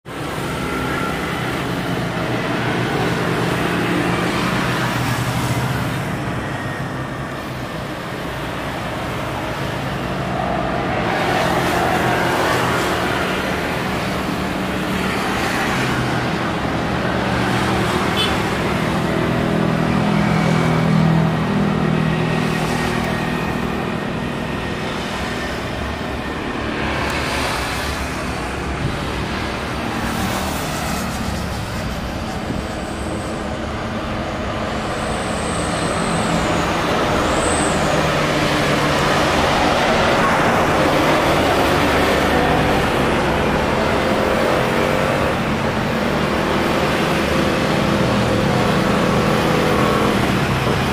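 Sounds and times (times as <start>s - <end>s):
jet engines at takeoff thrust: 0.1s - 50.9s.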